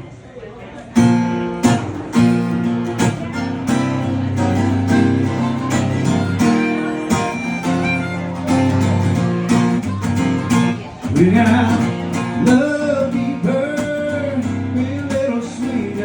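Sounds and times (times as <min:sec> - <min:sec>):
acoustic guitar strumming: 0:01.0 - 0:16.0.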